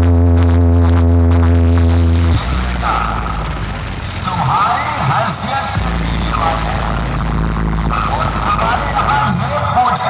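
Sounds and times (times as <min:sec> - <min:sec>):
loud remix music with heavy bass: 0:00.0 - 0:10.0.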